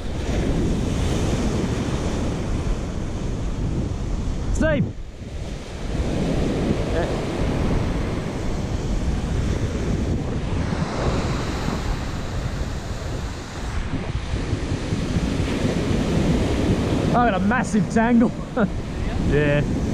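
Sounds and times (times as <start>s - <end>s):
surf breaking on beach: 0.0s - 19.9s
wind buffeting microphone: 0.0s - 19.9s.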